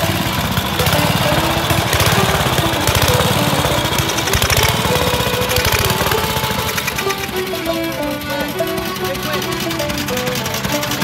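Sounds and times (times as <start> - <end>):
old gas engines firing: 0.0 - 11.0.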